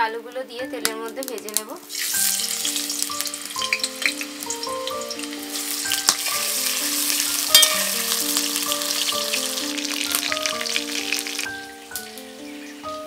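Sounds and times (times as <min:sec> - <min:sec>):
potatoes sizzling in oil: 0:01.1 - 0:13.0.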